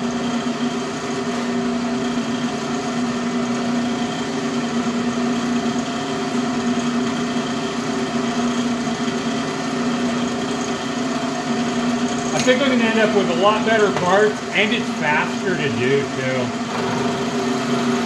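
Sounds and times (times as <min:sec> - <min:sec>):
milling machine humming: 0:00.0 - 0:18.0.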